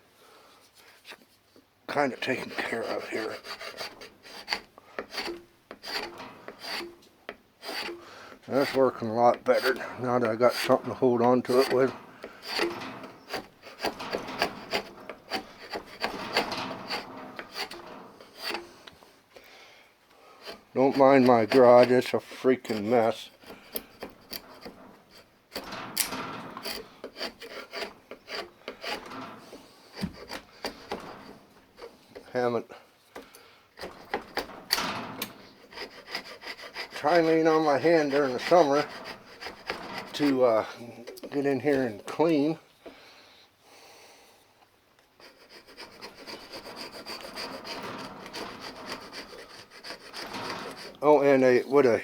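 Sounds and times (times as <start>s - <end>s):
tool scraping wooden handle: 1.9s - 19.5s, 20.2s - 43.0s, 45.2s - 52.0s.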